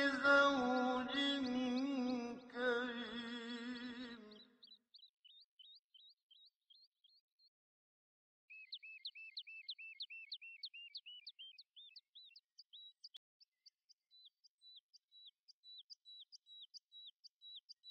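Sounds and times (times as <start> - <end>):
songbird chirping: 0.0 - 7.5, 8.5 - 13.2, 14.1 - 17.9.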